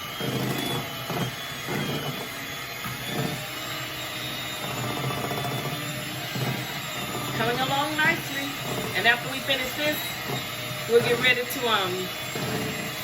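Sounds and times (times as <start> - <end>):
electric hand mixer running: 0.0 - 13.0.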